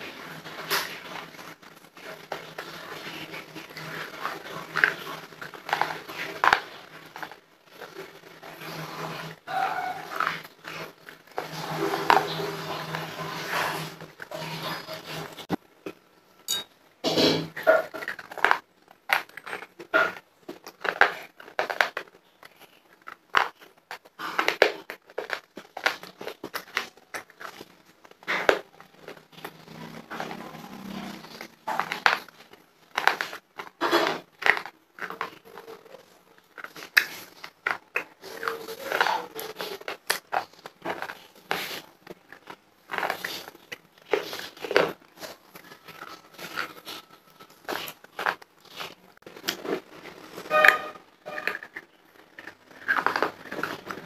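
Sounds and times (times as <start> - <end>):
chewing crunchy chalk: 0.0 - 16.0, 17.2 - 54.0.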